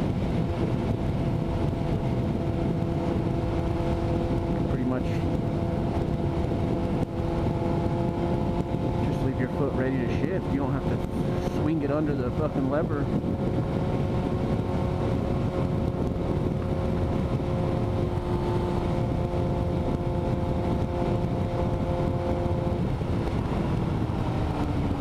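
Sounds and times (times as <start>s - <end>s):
motorcycle engine cruising: 0.0s - 25.0s
wind rumble on microphone: 0.0s - 25.0s.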